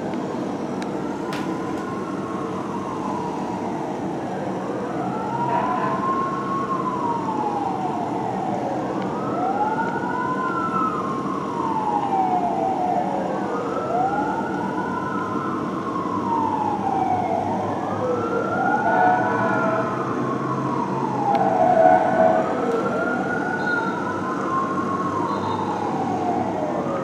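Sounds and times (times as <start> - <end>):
fire truck sirens wailing: 0.0 - 27.0
traffic rumble: 0.0 - 27.0.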